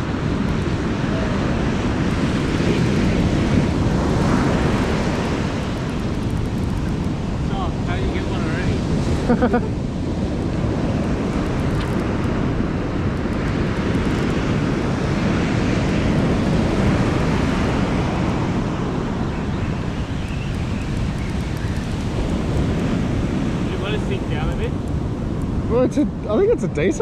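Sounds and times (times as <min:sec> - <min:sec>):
surf breaking on beach: 0:00.0 - 0:25.7
wind buffeting microphone: 0:00.0 - 0:27.0.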